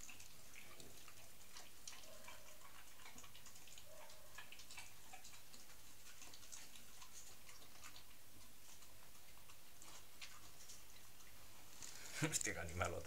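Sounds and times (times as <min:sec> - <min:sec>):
puppy chewing food: 0:00.0 - 0:13.0.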